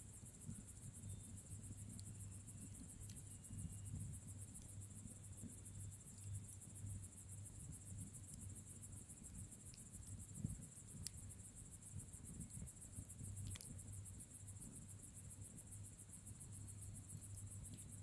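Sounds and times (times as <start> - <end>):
crickets chirring: 0.0 - 18.0
fire crackles and pops: 0.1 - 18.0
bonfire flames rumbling: 1.5 - 18.0.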